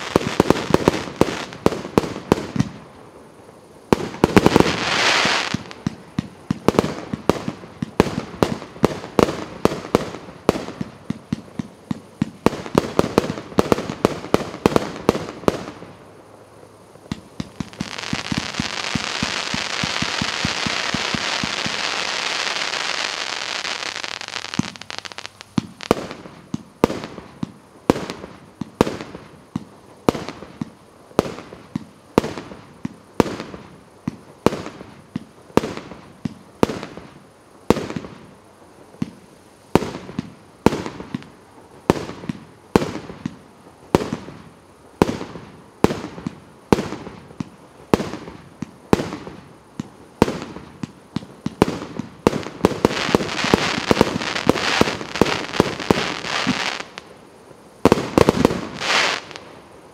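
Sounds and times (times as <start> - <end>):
dense firework crackle: 0.0 - 59.9.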